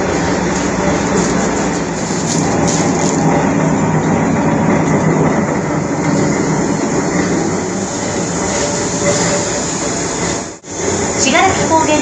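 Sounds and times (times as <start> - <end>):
railcar diesel engine running: 0.0 - 12.0.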